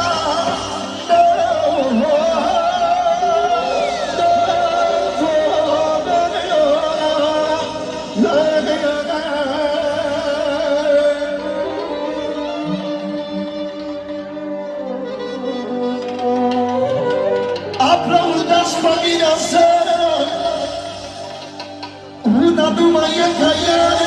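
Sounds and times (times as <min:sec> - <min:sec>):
live band ornamented melody: 0:00.0 - 0:24.0.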